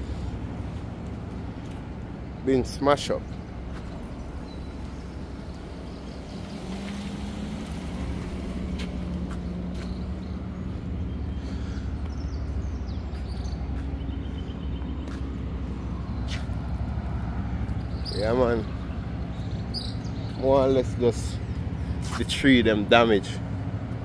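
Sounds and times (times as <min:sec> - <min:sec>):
vehicle engine running: 0:00.0 - 0:02.4, 0:03.1 - 0:24.0.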